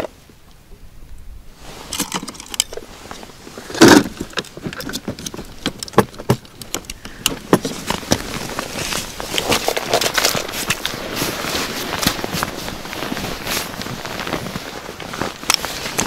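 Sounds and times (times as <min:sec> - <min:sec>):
fishing gear clicks and knocks: 0:01.8 - 0:16.0
broken ice crunching: 0:01.9 - 0:16.0.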